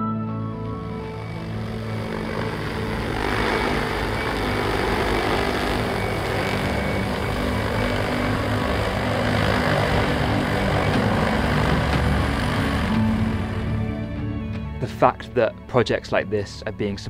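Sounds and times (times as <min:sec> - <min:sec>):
drone propellers whirring: 0:00.4 - 0:14.8.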